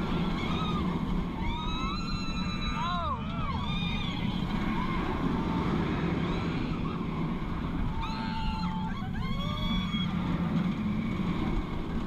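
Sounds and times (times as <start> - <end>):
riders screaming: 0.0 - 11.3
roller coaster rumbling on track: 0.0 - 12.0.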